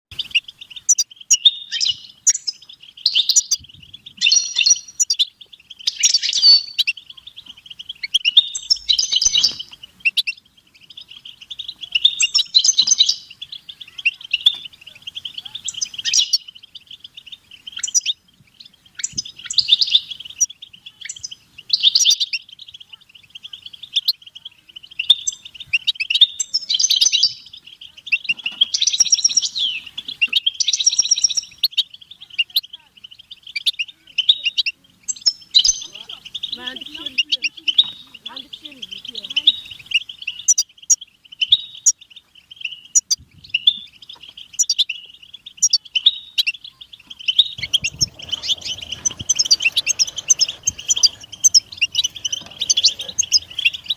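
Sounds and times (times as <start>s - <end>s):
bird twittering song: 0.0s - 53.9s.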